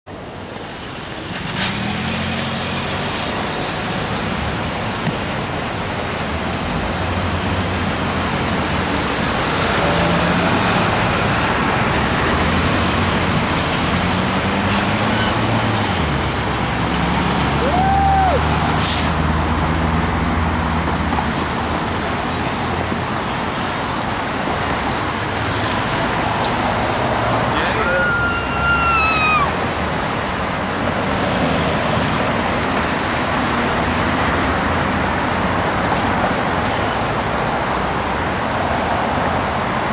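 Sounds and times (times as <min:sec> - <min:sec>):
road traffic passing: 0:00.1 - 0:39.9.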